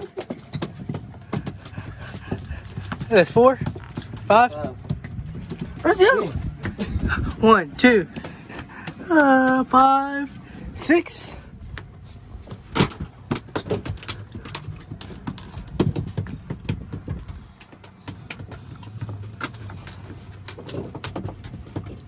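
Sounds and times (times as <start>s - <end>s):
knocks and clicks on a boat: 0.0s - 11.0s, 11.7s - 22.0s
low steady rumble: 0.0s - 22.0s.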